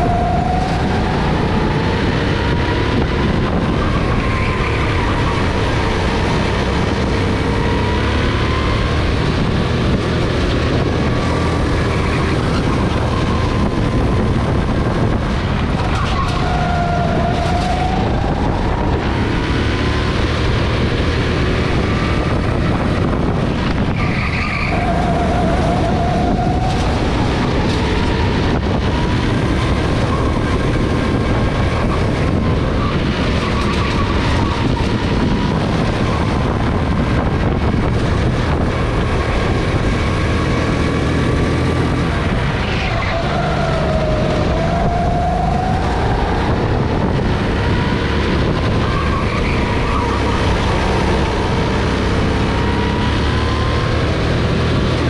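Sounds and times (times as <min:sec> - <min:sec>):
go-kart engine revving: 0:00.0 - 0:55.0
wind and road noise: 0:00.0 - 0:55.0.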